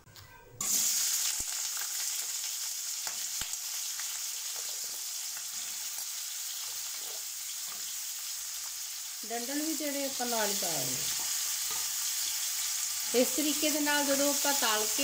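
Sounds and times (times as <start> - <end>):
potato slices sizzling in oil: 0.6 - 15.0.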